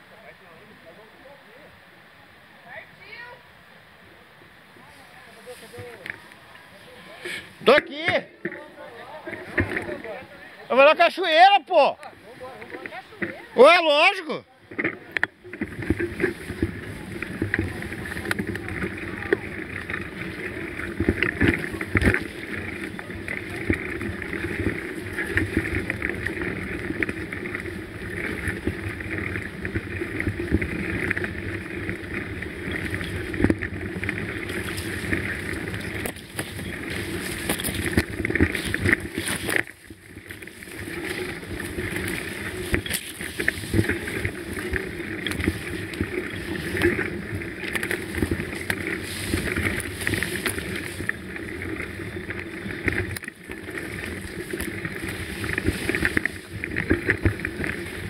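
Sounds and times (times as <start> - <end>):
tyre and trail noise: 0.0 - 58.0
bike rattling and knocking: 7.6 - 58.0.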